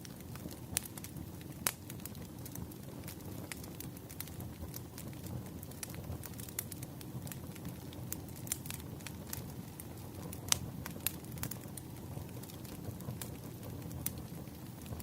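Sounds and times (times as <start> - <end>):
campfire crackling and popping: 0.0 - 15.0
low rush of flame: 0.0 - 15.0.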